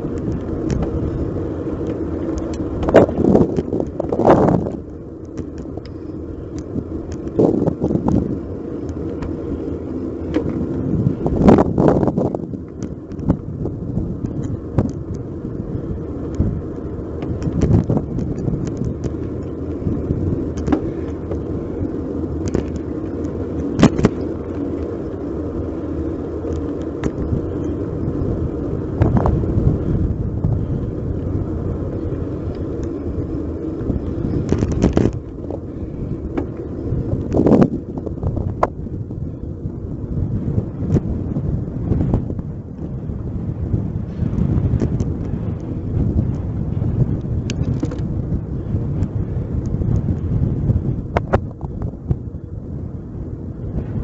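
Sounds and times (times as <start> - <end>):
bike clicks and rattles: 0.0 - 54.0
road noise: 0.0 - 54.0
wind rumble on microphone: 0.0 - 54.0.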